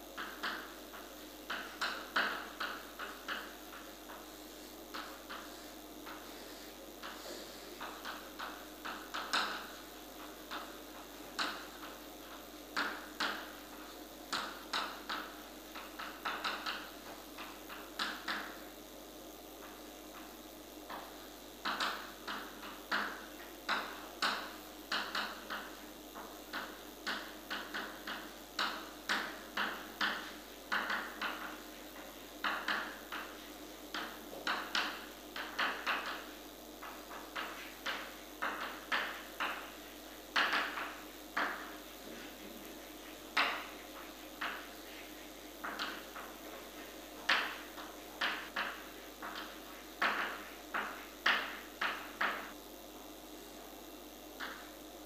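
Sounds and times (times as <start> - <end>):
chalk tapping and scraping on chalkboard: 0.2 - 18.6, 19.6 - 52.6.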